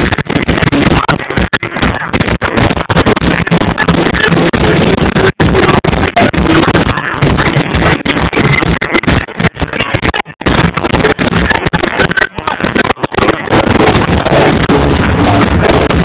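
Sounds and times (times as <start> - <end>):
distorted club music: 0.0 - 16.0.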